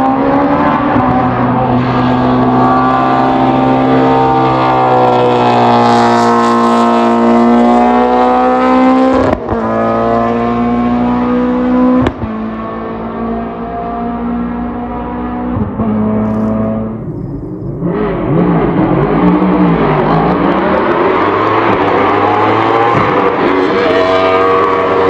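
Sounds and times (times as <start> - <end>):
racing car engine at high revs: 0.0 - 25.0.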